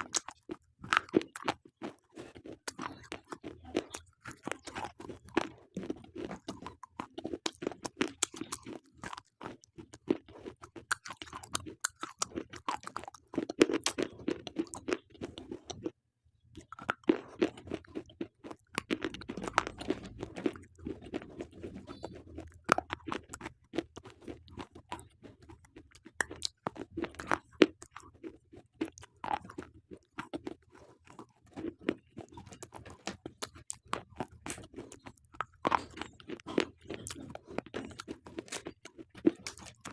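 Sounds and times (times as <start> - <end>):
chewing with sharp crunches: 0.0 - 16.0, 16.6 - 39.9.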